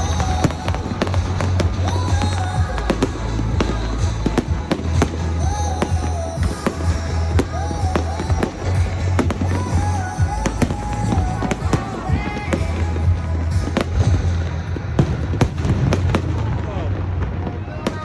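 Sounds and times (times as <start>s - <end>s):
music with heavy bass: 0.0s - 17.5s
fireworks bangs and crackles: 0.0s - 18.0s.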